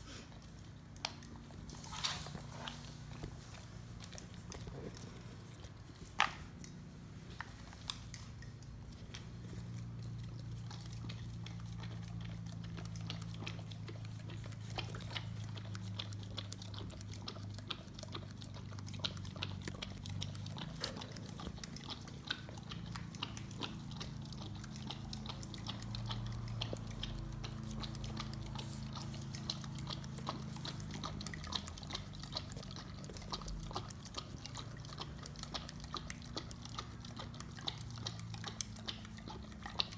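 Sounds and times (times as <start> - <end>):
low steady hum: 0.0 - 39.9
dog lapping milk from bowl: 7.6 - 39.9.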